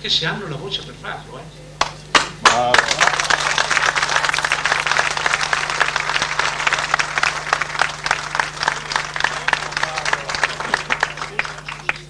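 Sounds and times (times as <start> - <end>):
low steady hum: 0.0 - 12.0
audience applauding: 1.8 - 12.0.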